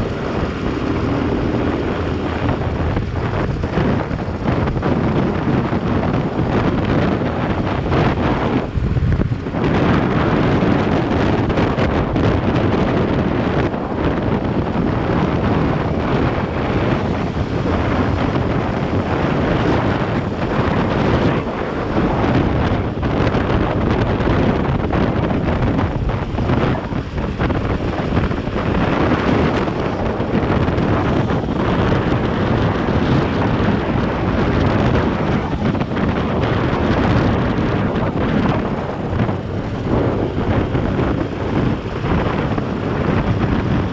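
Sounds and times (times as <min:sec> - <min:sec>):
road and vehicle noise: 0:00.0 - 0:43.9
wind rushing over microphone: 0:00.0 - 0:43.9.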